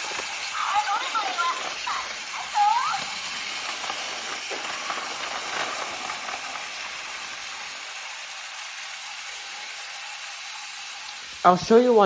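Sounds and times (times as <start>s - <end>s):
toy train motors whirring: 0.0s - 12.0s.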